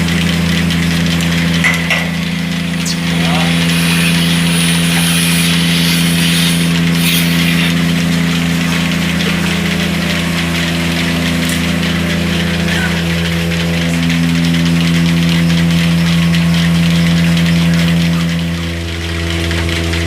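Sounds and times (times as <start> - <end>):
motor humming steadily: 0.0 - 20.0.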